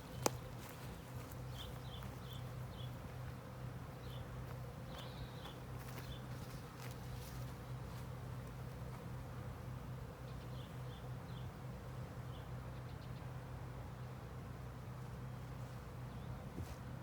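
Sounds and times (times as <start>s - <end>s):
honeybees buzzing: 0.0s - 16.5s.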